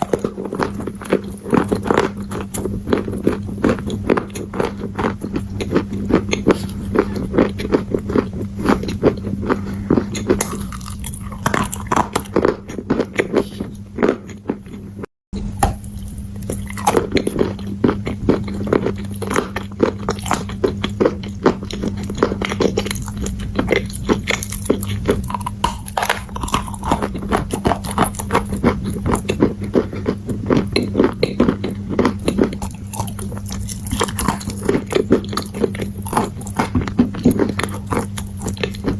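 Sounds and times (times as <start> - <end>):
dry clay crunching when chewed: 0.0 - 15.0, 15.6 - 38.9
steady low hum: 0.0 - 38.9.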